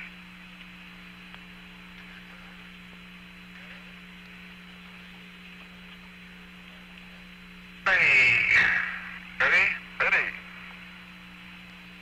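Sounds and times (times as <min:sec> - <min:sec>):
low hum: 0:00.0 - 0:12.0
radio static hiss: 0:00.0 - 0:12.0.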